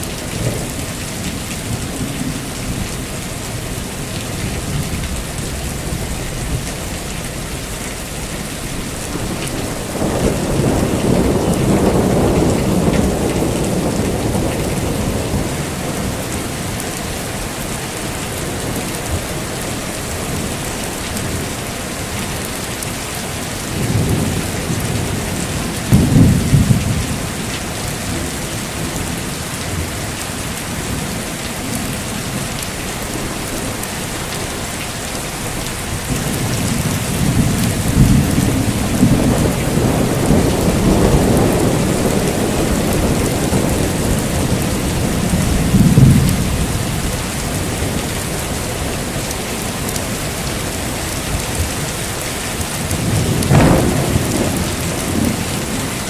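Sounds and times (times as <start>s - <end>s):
thunder rumbling: 0.0s - 22.5s, 23.3s - 56.0s
heavy rain: 0.0s - 56.0s.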